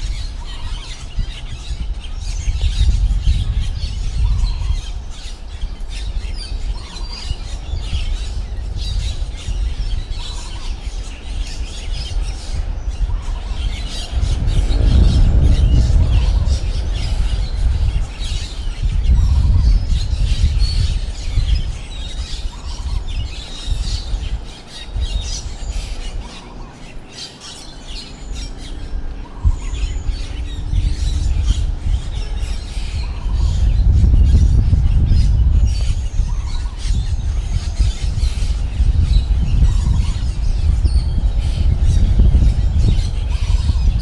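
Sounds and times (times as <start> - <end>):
birds chirping and squawking: 0.0 - 44.0
wind buffeting microphone: 0.0 - 44.0.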